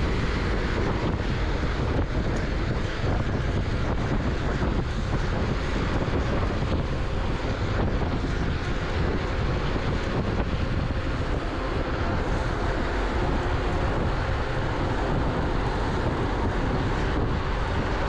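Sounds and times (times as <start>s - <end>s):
tyre and road noise: 0.0s - 18.0s
wind rushing over microphone: 0.0s - 18.0s.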